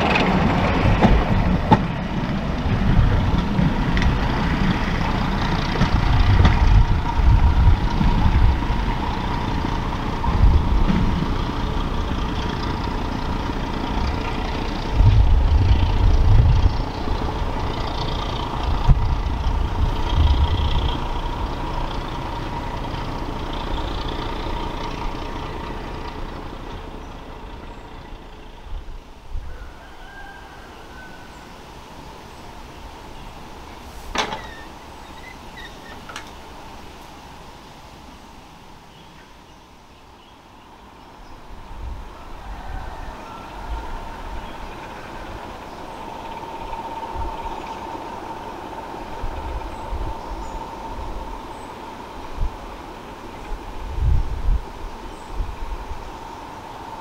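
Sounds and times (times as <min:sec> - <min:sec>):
diesel train engine rumble: 0:00.0 - 0:57.0.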